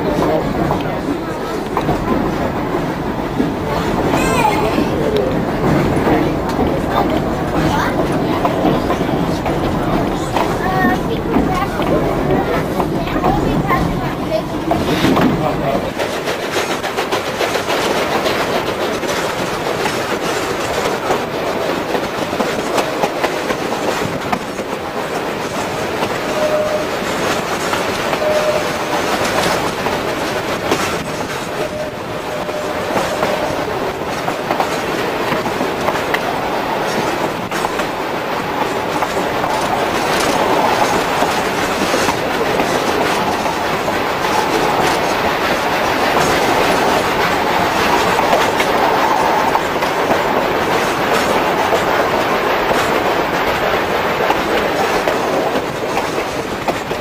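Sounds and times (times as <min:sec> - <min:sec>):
train coaches rumbling and rattling: 0:00.0 - 0:57.0
wheels clacking over rail joints: 0:00.0 - 0:57.0.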